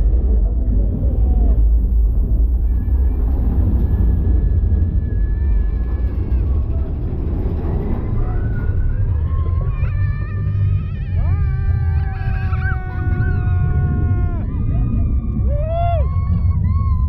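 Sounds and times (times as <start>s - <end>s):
roller coaster rumbling on track: 0.0s - 17.0s
wind buffeting microphone: 0.0s - 17.0s.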